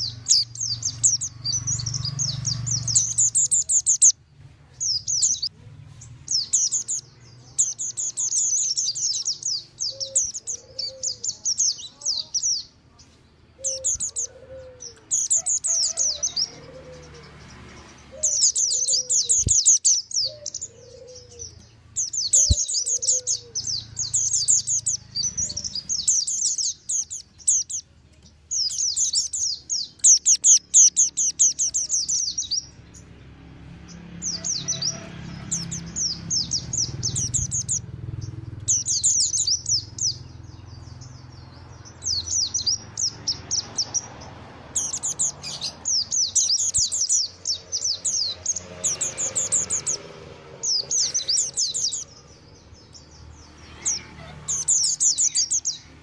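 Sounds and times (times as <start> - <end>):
bird twittering chatter: 0.0 - 33.2, 33.9 - 56.0.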